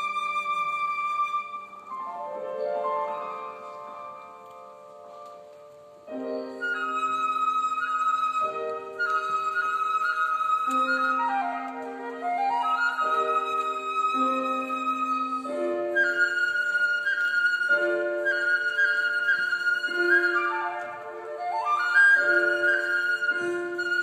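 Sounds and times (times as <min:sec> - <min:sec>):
flute playing classical music: 0:00.0 - 0:24.0
lower accompanying notes: 0:00.0 - 0:24.0.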